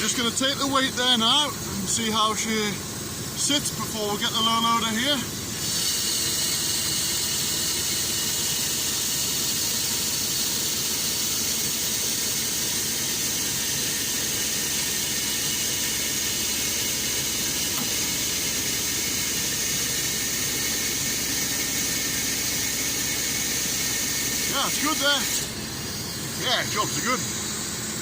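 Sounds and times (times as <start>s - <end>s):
hydraulic hiss: 0.1s - 28.0s.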